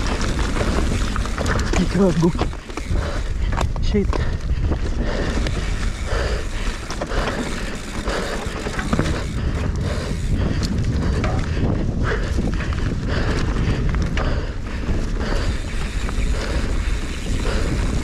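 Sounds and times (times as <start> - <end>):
bike rattling: 0.0 - 18.0
tyre noise on dirt: 0.0 - 18.0
wind buffeting microphone: 0.0 - 18.0.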